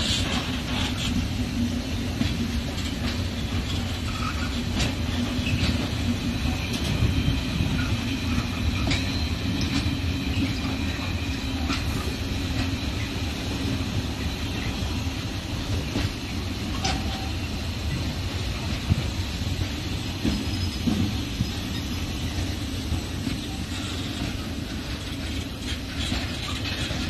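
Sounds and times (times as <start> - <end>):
steel wheels rumbling on rails: 0.0 - 27.0
faint high wheel squeal: 2.9 - 18.7, 19.8 - 27.0.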